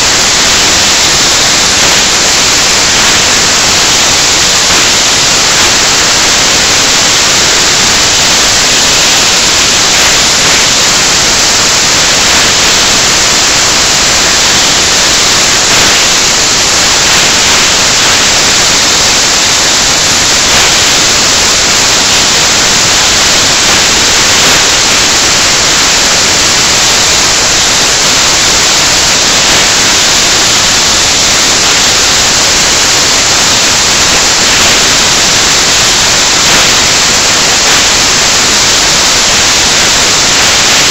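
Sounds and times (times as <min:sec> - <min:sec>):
loud static hiss: 0:00.0 - 0:40.9.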